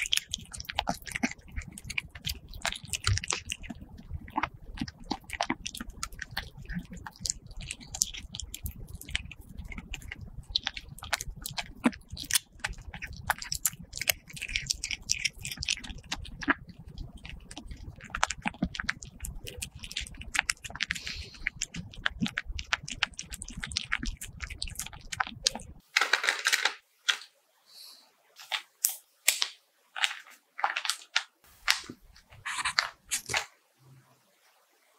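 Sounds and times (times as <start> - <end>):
kitten chewing and lapping: 0.0 - 25.8, 30.0 - 33.4.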